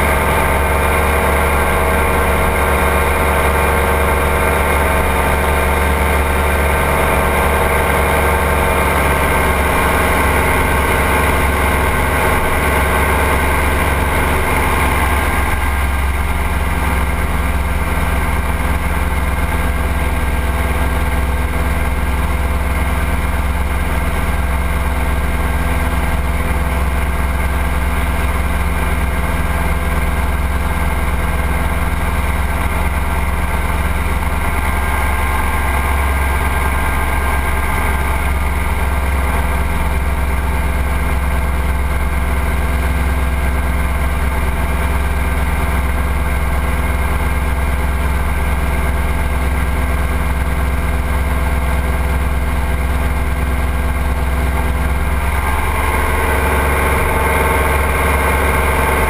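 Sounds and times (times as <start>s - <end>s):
aircraft engine running: 0.0s - 59.0s.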